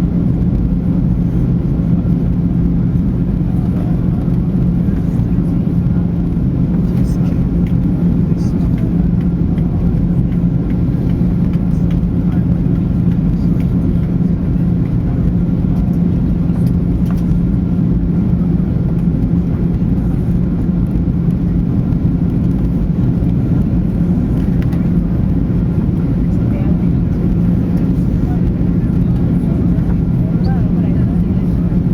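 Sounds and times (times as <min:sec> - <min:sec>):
low mechanical drone: 0:00.0 - 0:31.9.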